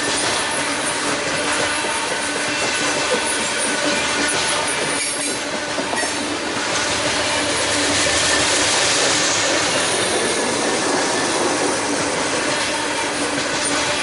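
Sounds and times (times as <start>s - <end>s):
train wheels rumbling on rails: 0.0s - 14.0s
wheels squealing against rails: 0.0s - 14.0s.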